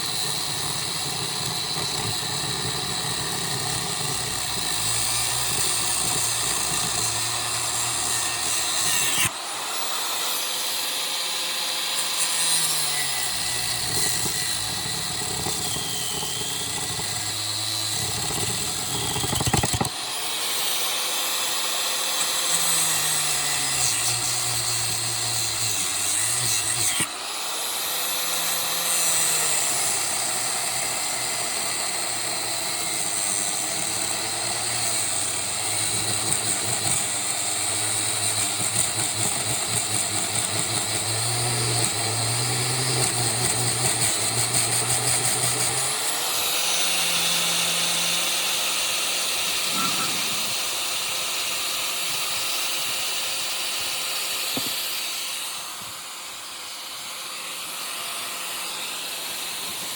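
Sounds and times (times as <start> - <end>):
electric angle grinder: 0.0 - 59.9.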